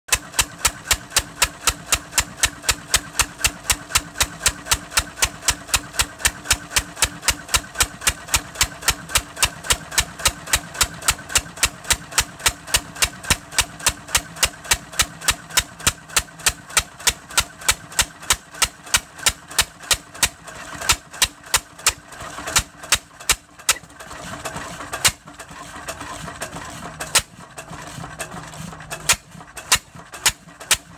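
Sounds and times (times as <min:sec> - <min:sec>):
stationary gas engine exhaust pops: 0:00.1 - 0:30.9.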